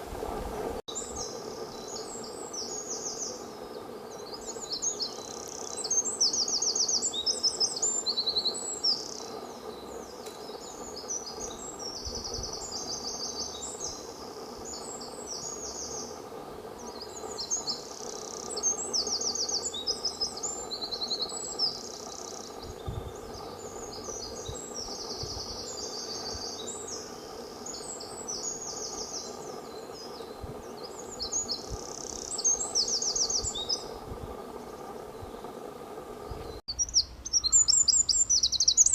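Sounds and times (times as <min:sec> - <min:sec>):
songbird singing trills: 0:00.9 - 0:35.6, 0:36.2 - 0:38.9.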